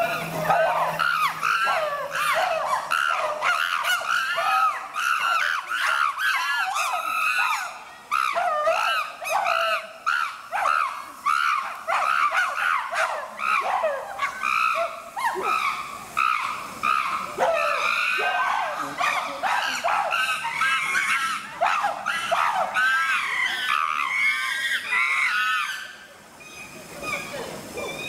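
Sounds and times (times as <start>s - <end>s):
chimpanzees screaming: 0.0s - 28.0s.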